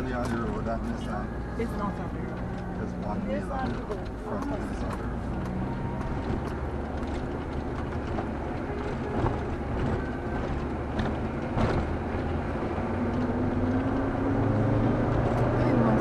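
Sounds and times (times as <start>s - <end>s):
car engine from inside cabin: 0.0s - 16.0s
road noise: 0.0s - 16.0s.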